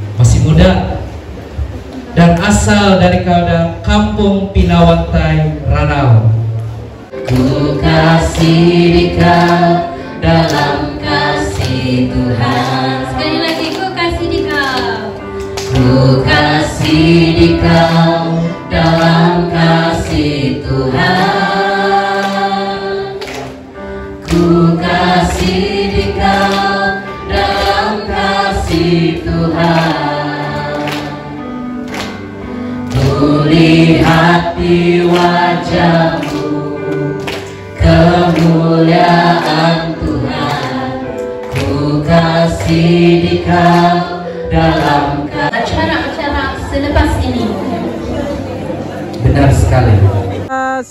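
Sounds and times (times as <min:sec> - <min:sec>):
group of people singing: 0:07.1 - 0:49.8.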